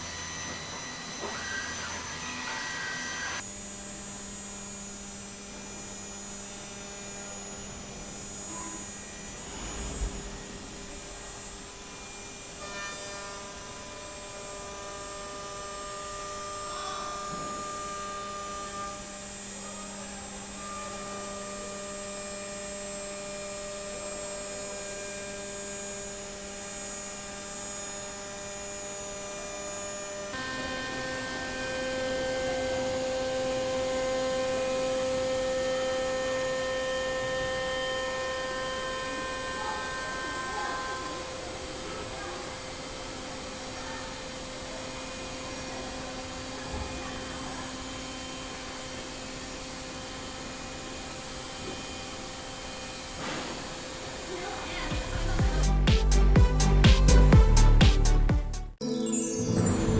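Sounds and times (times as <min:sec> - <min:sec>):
cnc machine whine: 0:00.0 - 0:55.7.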